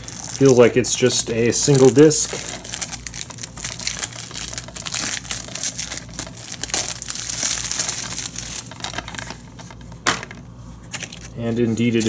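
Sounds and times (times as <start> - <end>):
plastic shrink wrap crinkling: 0.0 - 12.0.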